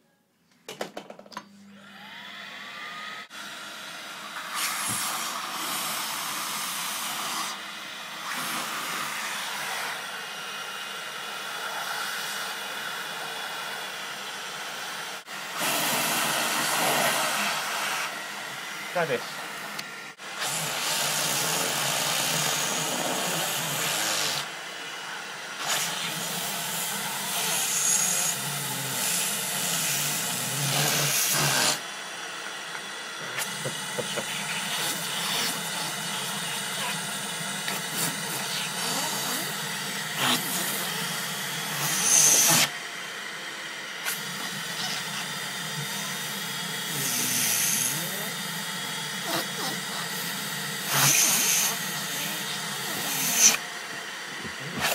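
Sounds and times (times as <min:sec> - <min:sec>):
vacuum cleaner suction hiss: 0:01.8 - 0:54.9.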